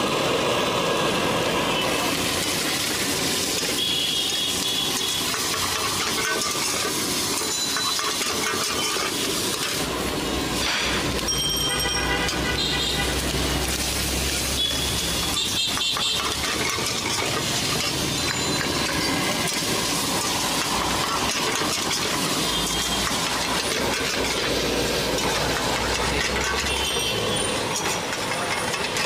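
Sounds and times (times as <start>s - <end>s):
noodles sizzling in a wok: 0.0s - 29.0s
street noise with engines: 0.0s - 29.0s
metal spatula scraping a pan: 3.4s - 10.0s, 10.6s - 29.0s.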